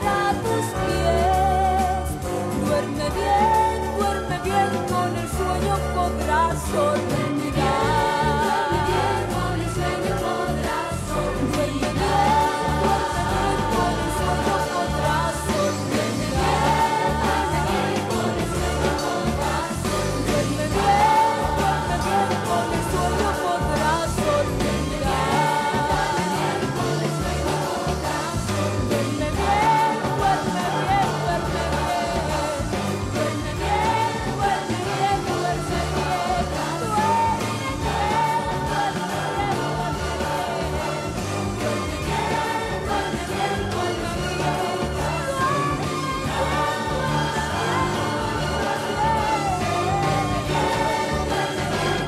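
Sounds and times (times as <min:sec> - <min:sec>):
rock music with singing and choir: 0:00.0 - 0:52.0.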